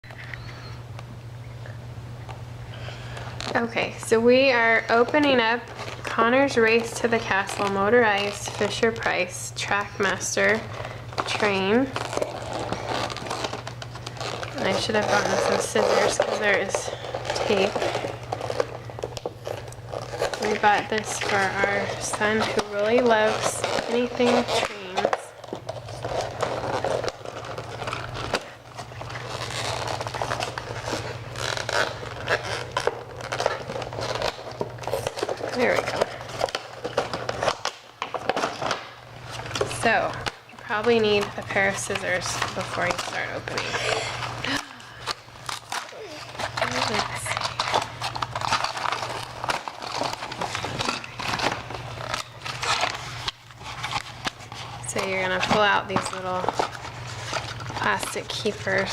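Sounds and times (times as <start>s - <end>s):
packaging scraping: 2.8s - 58.9s
tape ripping: 2.8s - 58.9s.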